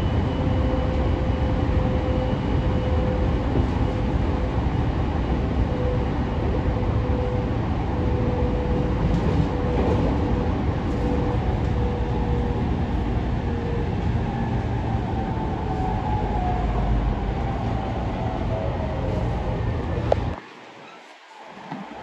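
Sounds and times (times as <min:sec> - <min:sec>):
rumble of wheels on rail: 0:00.0 - 0:22.0.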